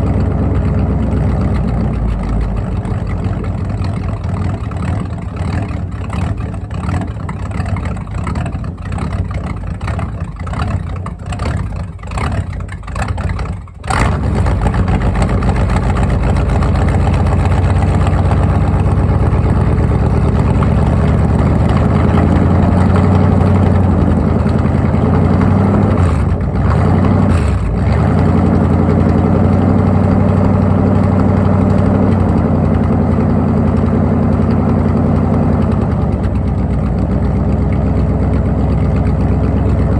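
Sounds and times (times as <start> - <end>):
pickup engine running unevenly: 0.0 - 39.9.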